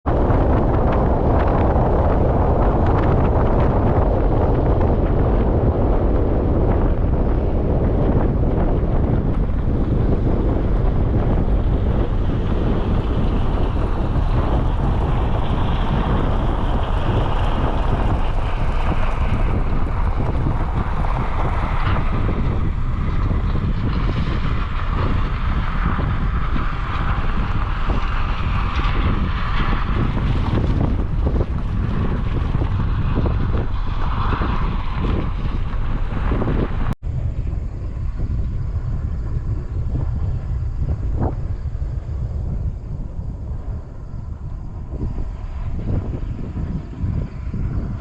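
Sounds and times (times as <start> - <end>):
vehicle rumble: 0.0 - 48.0
wind buffeting microphone: 0.0 - 48.0.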